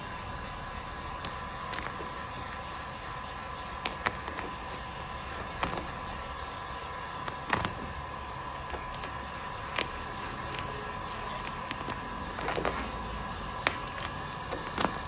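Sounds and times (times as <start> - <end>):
heat gun whining: 0.0 - 15.0
vinyl wrap cracking and snapping: 1.0 - 2.7, 3.6 - 15.0.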